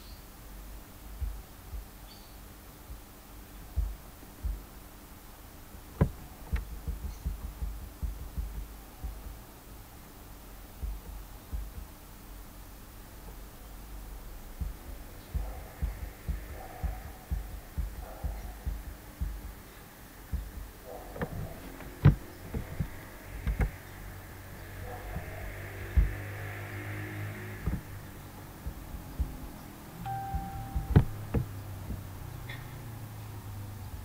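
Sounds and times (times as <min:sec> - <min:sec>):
low hum: 0:00.0 - 0:34.0
soft low thumps: 0:00.6 - 0:09.7, 0:10.4 - 0:12.1, 0:13.2 - 0:32.6.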